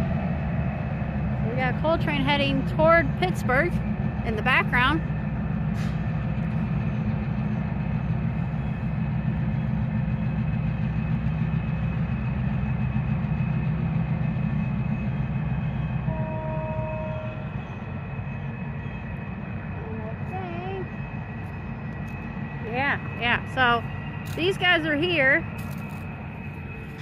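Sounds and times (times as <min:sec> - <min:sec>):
freight train rumble: 0:00.0 - 0:27.0.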